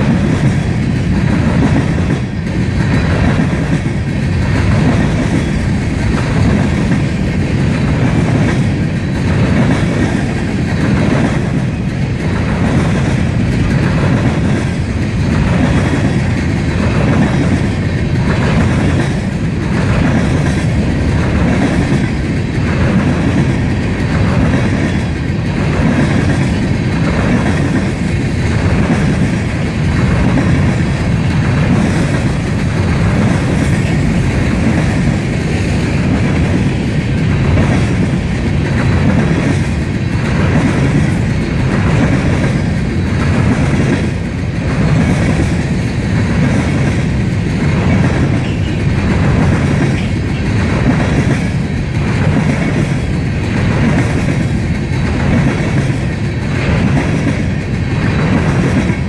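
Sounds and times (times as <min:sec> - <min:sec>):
freight train rumbling: 0:00.0 - 0:59.0
wheels clattering over rail joints: 0:00.0 - 0:59.0.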